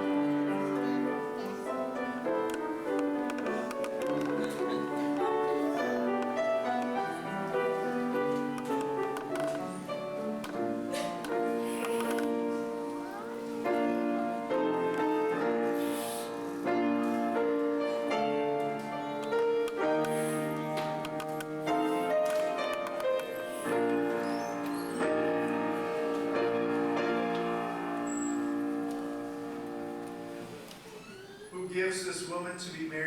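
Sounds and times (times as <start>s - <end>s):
slow keyboard music: 0.0s - 31.0s.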